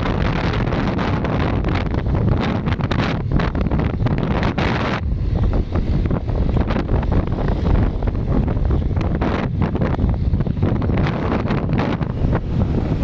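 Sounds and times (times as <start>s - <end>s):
heavy wind buffeting microphone: 0.0s - 13.0s.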